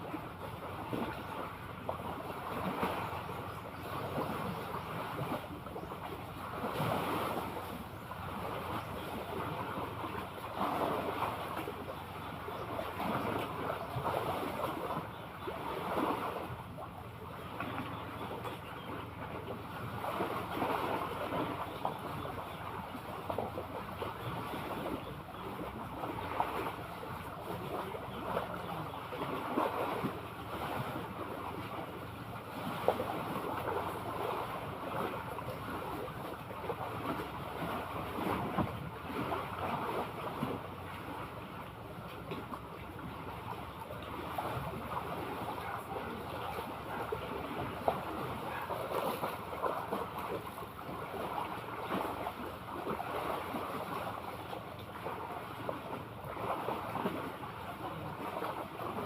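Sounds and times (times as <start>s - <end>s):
sea waves lapping and splashing: 0.0s - 59.0s.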